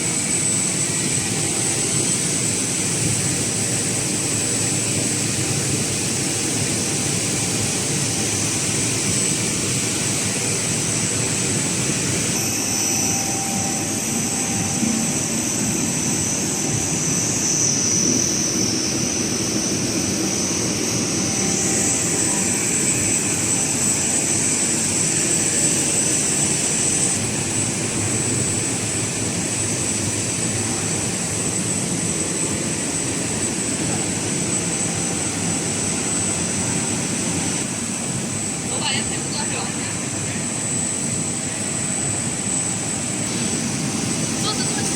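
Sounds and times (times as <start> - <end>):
faint high whines: 0.0 - 44.9
machinery drone: 0.0 - 44.9.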